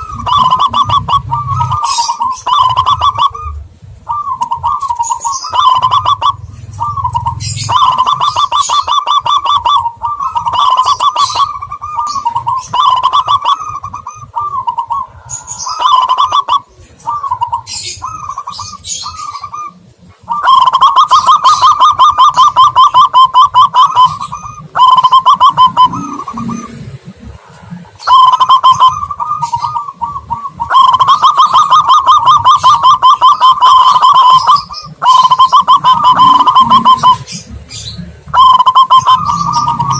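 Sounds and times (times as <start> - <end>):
doves cooing in trilled phrases: 0.0 - 39.9.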